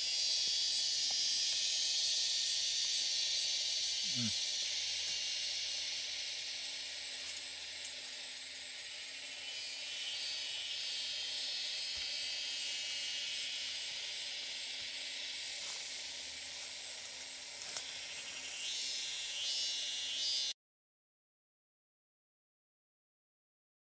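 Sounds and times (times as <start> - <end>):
forest insects hissing: 0.0 - 20.6.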